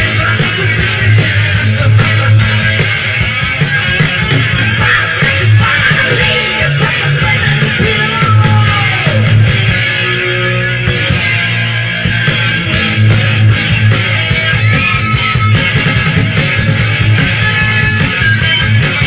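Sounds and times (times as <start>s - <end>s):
bass guitar: 0.0s - 19.0s
drums: 0.0s - 19.0s
electric guitars: 0.0s - 19.0s.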